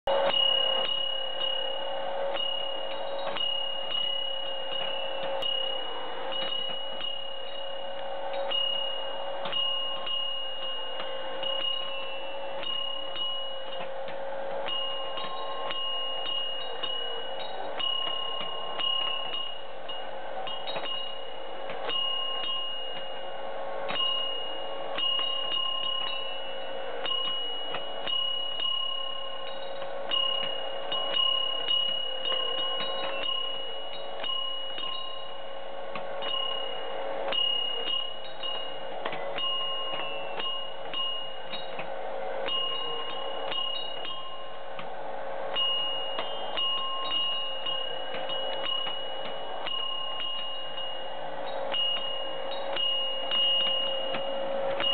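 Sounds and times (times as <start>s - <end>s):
steady low tone: 0.0s - 54.9s
metallic strikes on brass bowls: 0.1s - 44.8s, 45.4s - 54.9s.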